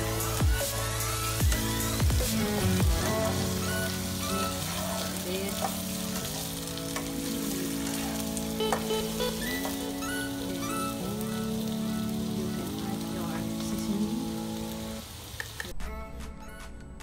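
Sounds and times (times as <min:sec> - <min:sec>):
shrimp sizzling in a pan: 0:00.0 - 0:15.7
background music with held chords: 0:00.0 - 0:17.0.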